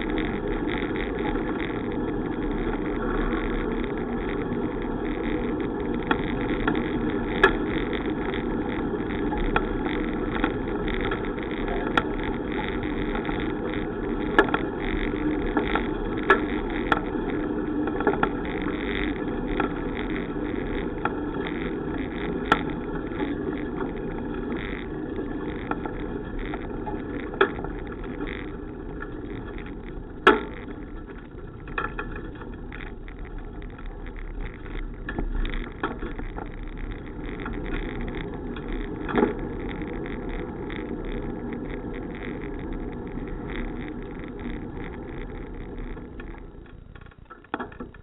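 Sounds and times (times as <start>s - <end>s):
bicycle clicks and rattles: 0.0s - 48.0s
bicycle tyre and wind noise: 0.0s - 48.0s.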